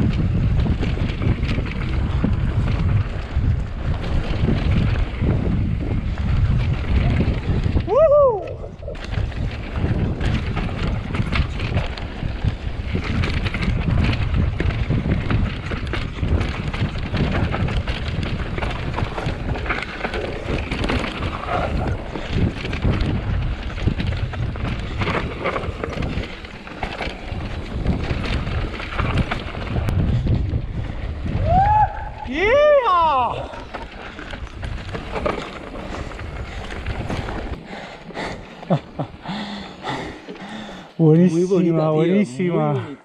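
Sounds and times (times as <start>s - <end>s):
bike clattering over bumps: 0.0s - 8.0s, 8.8s - 41.0s
tyres rushing on dirt: 0.0s - 42.4s
wind buffeting microphone: 0.0s - 42.8s.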